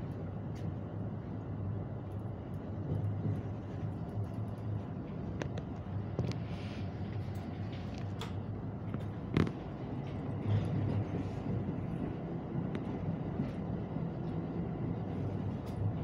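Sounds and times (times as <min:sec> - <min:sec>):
electric train hum and rumble: 0:00.0 - 0:16.0.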